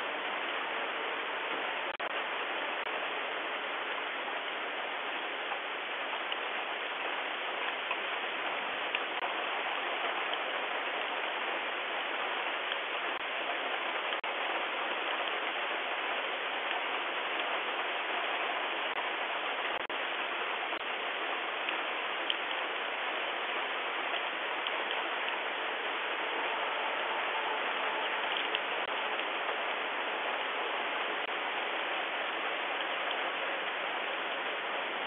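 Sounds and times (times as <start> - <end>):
heavy rain hissing: 0.0 - 35.0.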